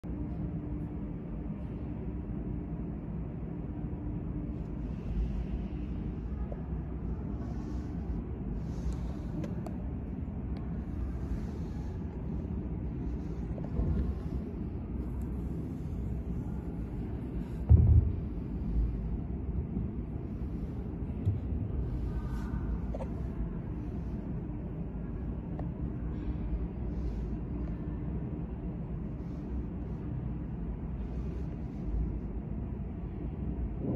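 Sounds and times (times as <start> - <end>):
faint hum: 0.0 - 33.9
low background rumble: 0.0 - 33.9.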